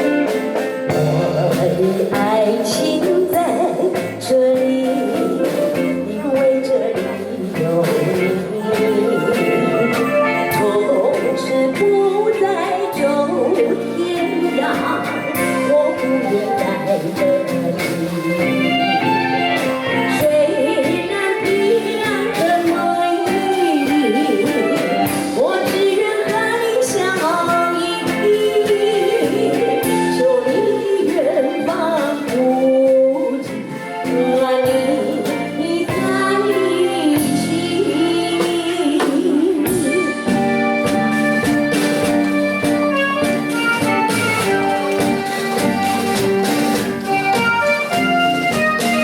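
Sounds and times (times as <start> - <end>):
woman singing pop song: 0.0 - 41.0
instrumental backing music: 0.0 - 49.0.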